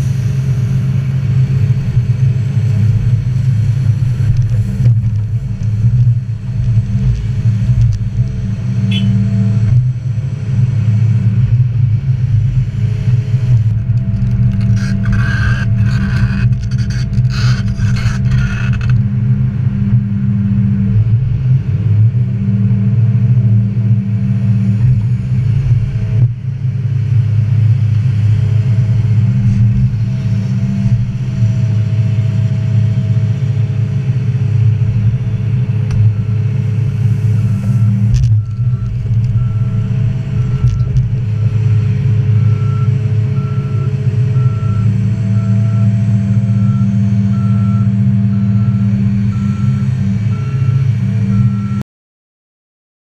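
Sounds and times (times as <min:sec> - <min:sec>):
excavator diesel engine running: 0:00.0 - 0:51.8.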